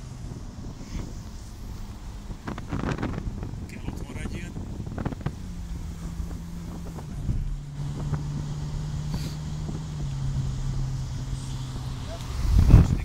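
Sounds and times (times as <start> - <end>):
car engine cruising: 0.0 - 13.0
wind rushing: 0.0 - 13.0.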